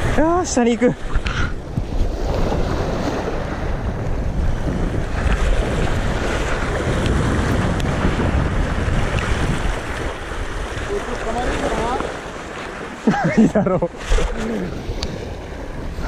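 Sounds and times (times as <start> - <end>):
wind noise on microphone: 0.0 - 12.4, 13.1 - 16.0
waves breaking on rocks: 0.0 - 16.0.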